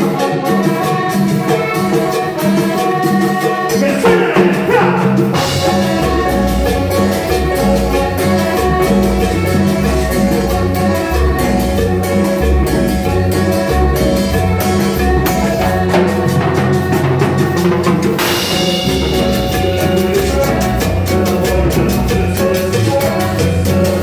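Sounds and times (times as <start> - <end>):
latin dance band playing: 0.0 - 24.0.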